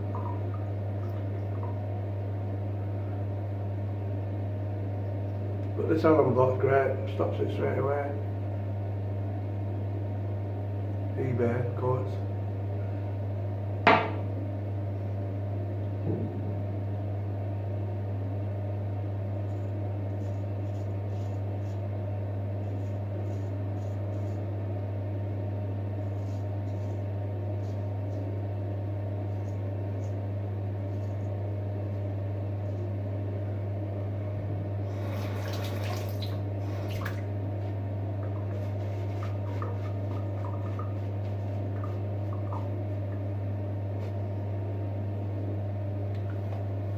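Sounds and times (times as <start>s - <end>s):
room ventilation hum: 0.0s - 46.9s.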